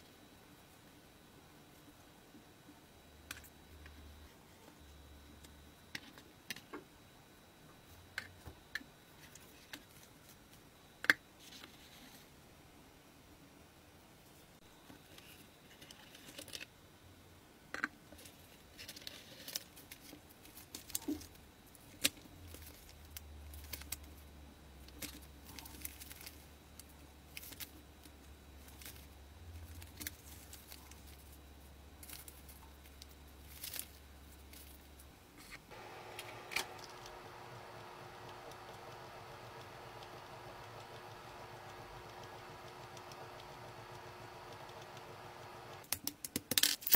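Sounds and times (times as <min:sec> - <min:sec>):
steady multi-tone hum: 0:00.0 - 0:45.9.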